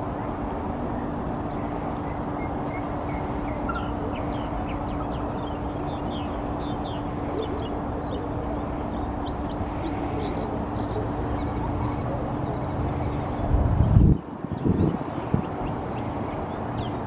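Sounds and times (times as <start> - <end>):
faint constant hum: 0.0 - 17.0
small birds chirping: 1.0 - 17.0.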